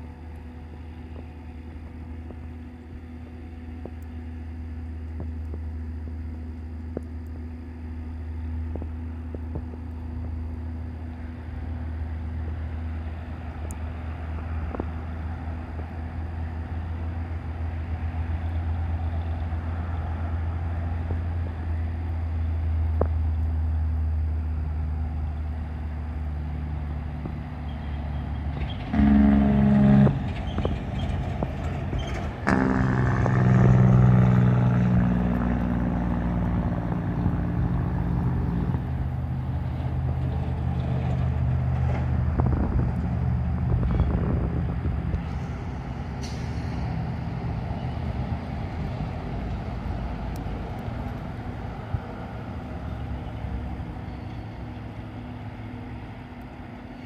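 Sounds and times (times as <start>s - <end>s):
diesel locomotive engine hum: 0.0s - 57.0s.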